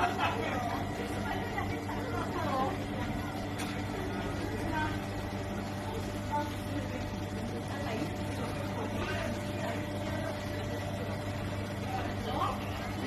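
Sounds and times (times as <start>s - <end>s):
faint voices talking: 0.0s - 13.0s
machine humming: 0.0s - 13.0s.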